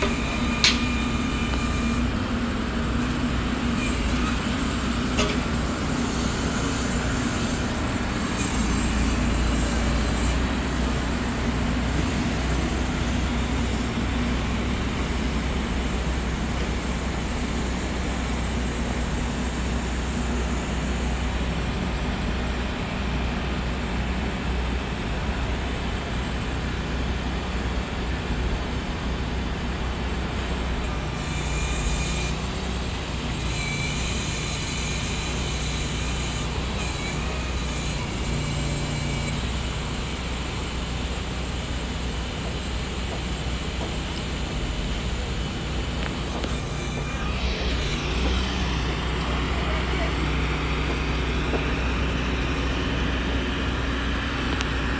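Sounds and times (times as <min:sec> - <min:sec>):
electric train rumbling on track: 0:00.0 - 0:54.9.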